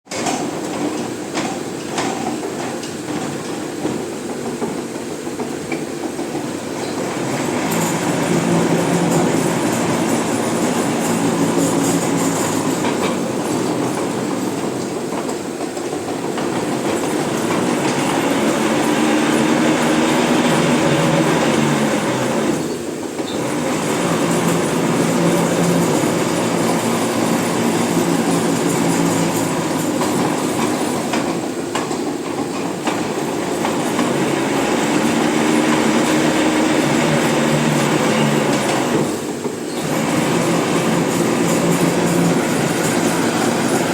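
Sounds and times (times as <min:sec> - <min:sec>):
machine humming and clattering: 0:00.1 - 0:43.9.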